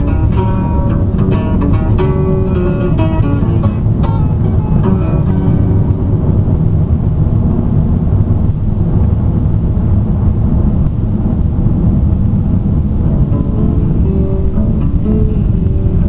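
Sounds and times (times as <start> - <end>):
car driving on road: 0.0 - 16.0
tyre and wind noise: 0.0 - 16.0.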